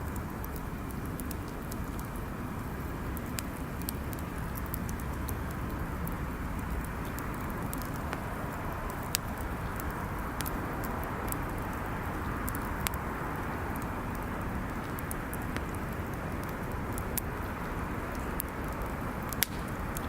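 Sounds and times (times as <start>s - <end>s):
bonfire crackling and popping: 0.0s - 20.0s
low fire rumble: 0.0s - 20.0s.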